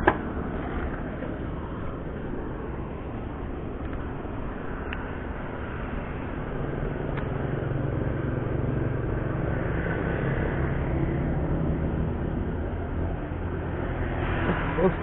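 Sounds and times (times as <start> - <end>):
motorcycle passing: 0.0 - 15.0.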